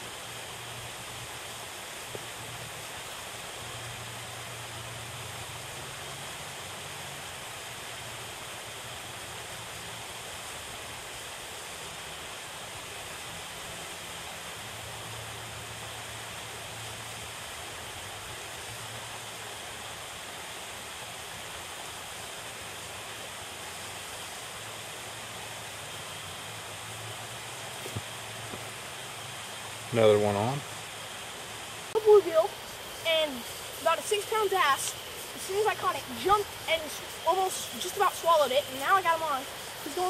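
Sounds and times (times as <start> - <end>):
water rushing over a spillway: 0.0 - 40.0.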